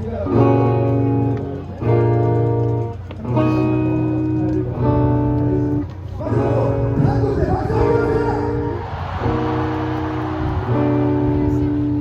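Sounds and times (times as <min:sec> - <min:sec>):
bass guitar: 0:00.0 - 0:12.0
electric guitar chords: 0:00.0 - 0:12.0.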